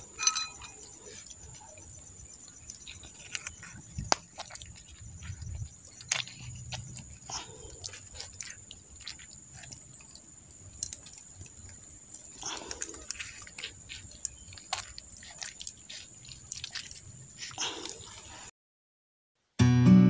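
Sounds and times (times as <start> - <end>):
embers crackling and popping: 0.0 - 18.5.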